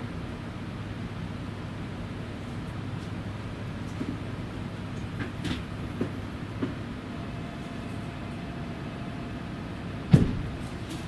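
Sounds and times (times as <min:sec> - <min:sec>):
train humming: 0:00.0 - 0:11.0.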